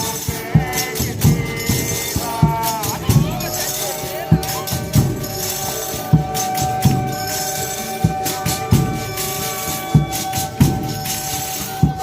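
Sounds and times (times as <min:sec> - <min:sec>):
drum beats: 0:00.0 - 0:12.0
held instrument notes: 0:00.0 - 0:12.0
tambourine jingling: 0:00.0 - 0:12.0.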